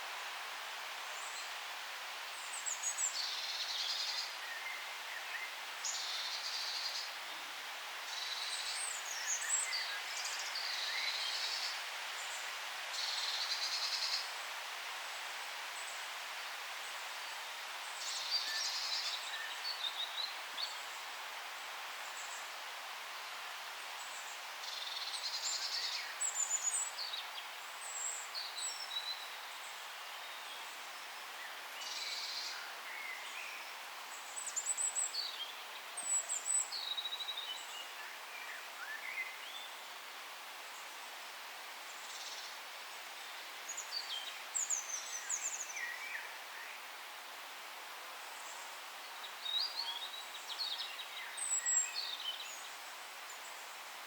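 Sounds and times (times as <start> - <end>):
steady soft hiss: 0.0 - 54.0.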